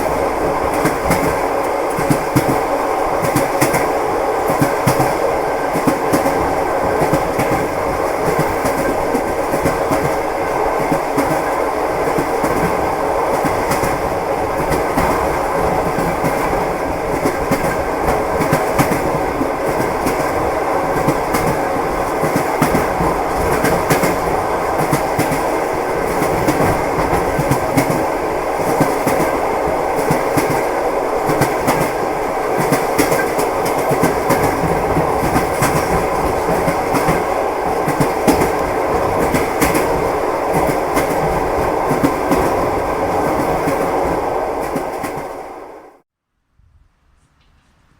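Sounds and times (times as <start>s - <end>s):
train running rumble: 0.0s - 46.0s
train wheels clickety-clack: 0.0s - 46.0s.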